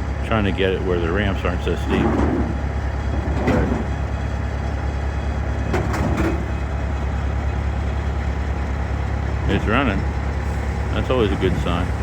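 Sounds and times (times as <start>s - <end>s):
engine running with low drone: 0.0s - 12.0s.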